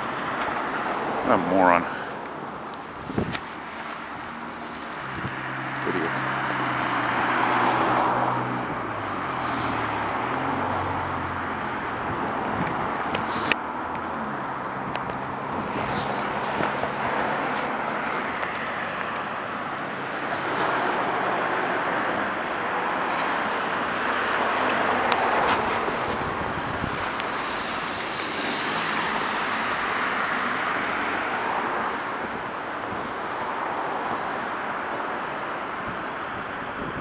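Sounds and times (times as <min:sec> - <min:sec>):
cars driving past: 0:00.0 - 0:37.0.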